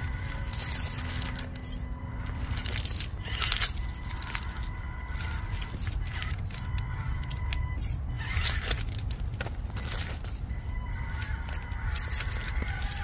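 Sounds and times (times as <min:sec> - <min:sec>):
low rumble: 0:00.0 - 0:13.0
toy car motor whine: 0:00.0 - 0:13.0
tyres and chassis clicking: 0:00.0 - 0:13.0.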